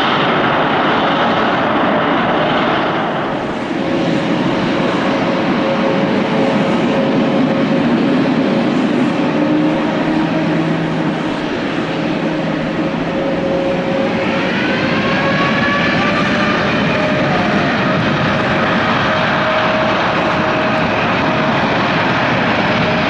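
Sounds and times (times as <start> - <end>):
jet engines roaring: 0.0 - 23.0
engine whine rising in pitch: 2.7 - 23.0.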